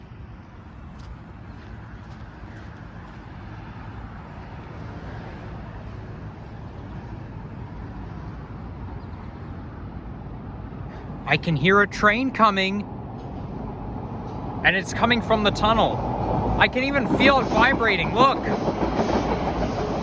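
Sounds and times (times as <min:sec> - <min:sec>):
vehicle rumble: 0:00.0 - 0:19.6.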